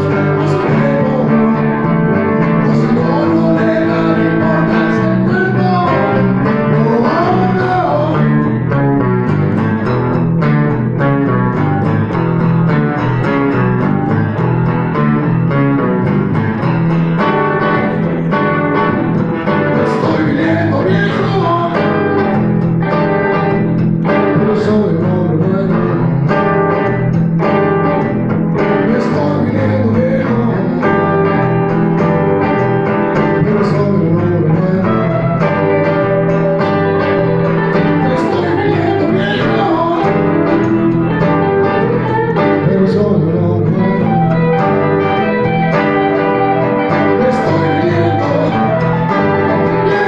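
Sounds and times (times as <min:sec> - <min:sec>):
electric bass line: 0:00.0 - 0:50.0
second guitar: 0:00.0 - 0:50.0
strummed acoustic guitar: 0:00.0 - 0:50.0.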